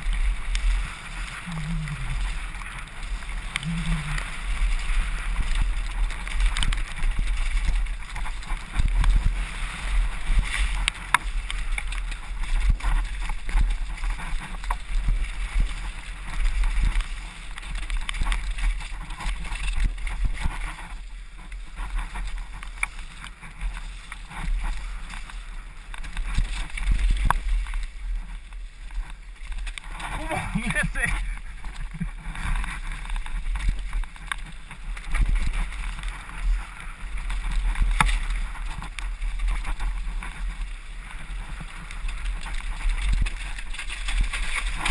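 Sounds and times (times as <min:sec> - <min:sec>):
bike clicking and rattling: 0:00.0 - 0:44.9
tyres rolling over mud and gravel: 0:00.0 - 0:44.9
wind rumble on microphone: 0:00.0 - 0:44.9.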